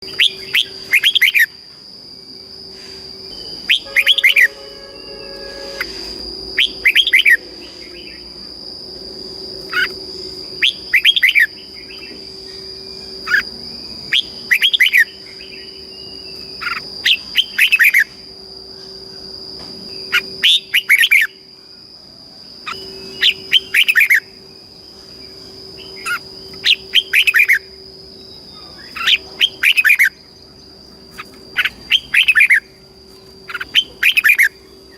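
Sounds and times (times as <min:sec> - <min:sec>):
bird whistled song: 0:00.0 - 0:01.6, 0:03.2 - 0:08.4, 0:09.7 - 0:18.2, 0:19.9 - 0:21.4, 0:22.6 - 0:32.8, 0:33.5 - 0:34.9
high-pitched whine: 0:00.0 - 0:34.9.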